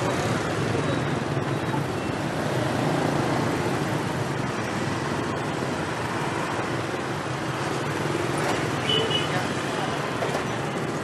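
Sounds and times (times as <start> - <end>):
motorbike traffic hum: 0.0 - 11.0.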